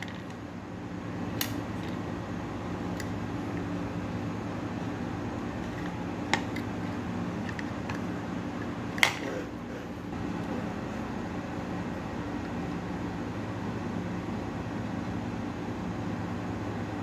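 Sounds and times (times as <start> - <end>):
low fan hum: 0.0 - 17.0.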